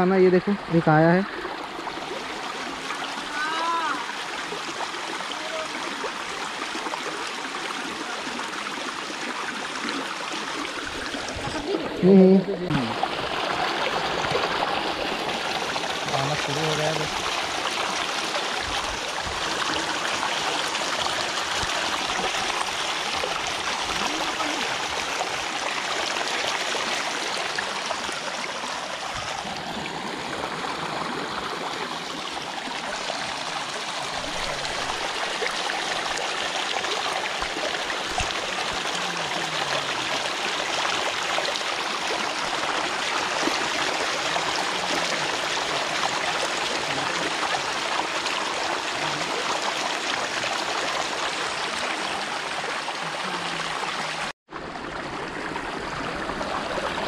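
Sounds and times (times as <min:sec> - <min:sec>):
water rushing and splashing: 0:00.0 - 0:57.0.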